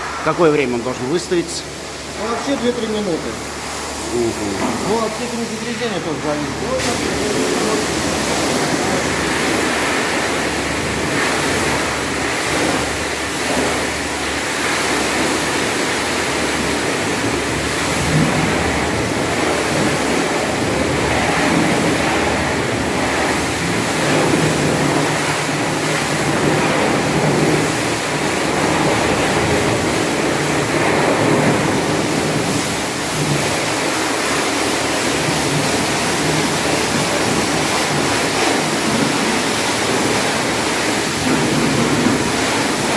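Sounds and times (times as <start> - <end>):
water spray hissing: 0.0 - 42.9.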